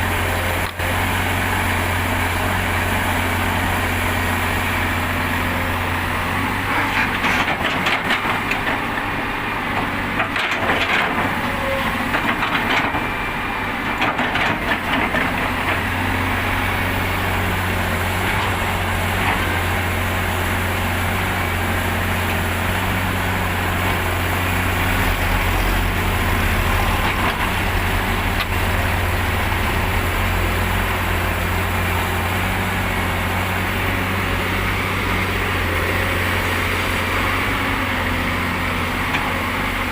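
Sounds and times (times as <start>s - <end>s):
heavy diesel engines humming: 0.0s - 39.9s.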